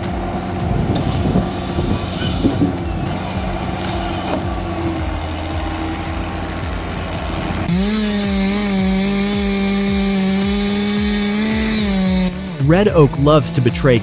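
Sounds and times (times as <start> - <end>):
chainsaw revving: 0.0 - 14.0
machine hum: 0.0 - 14.0.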